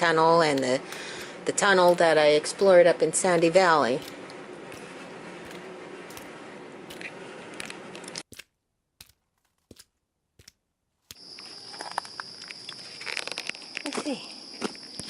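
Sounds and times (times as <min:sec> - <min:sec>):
scattered clicks and crunches: 0:00.0 - 0:15.0.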